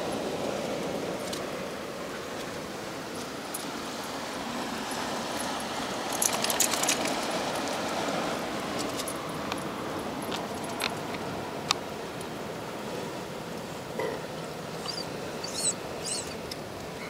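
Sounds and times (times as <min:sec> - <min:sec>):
sea water surging among rocks: 0:00.0 - 0:17.0.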